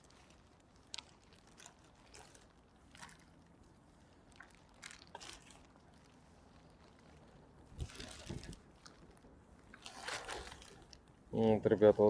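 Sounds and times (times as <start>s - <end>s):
small water sounds: 0.0s - 12.0s.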